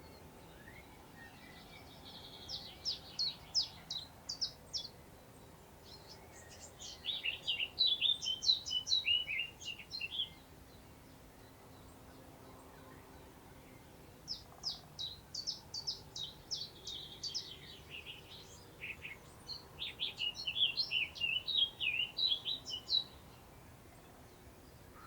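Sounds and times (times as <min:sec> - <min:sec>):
songbird singing: 0:00.0 - 0:25.0.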